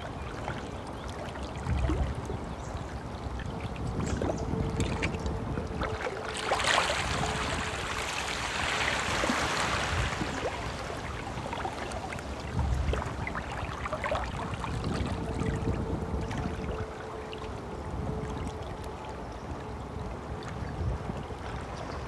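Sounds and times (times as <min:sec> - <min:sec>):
stream flowing: 0:00.0 - 0:22.0
water splashing and trickling: 0:00.0 - 0:22.0.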